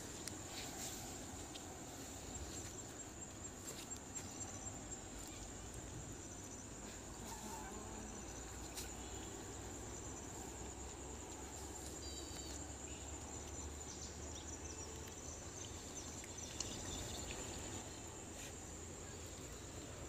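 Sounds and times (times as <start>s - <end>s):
insects chirring: 0.0s - 20.0s
short insect chirps: 3.6s - 20.0s.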